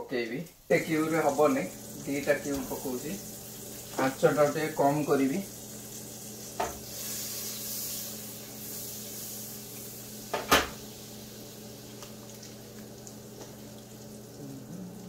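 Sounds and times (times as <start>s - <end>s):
butter sizzling in pan: 0.2s - 15.0s.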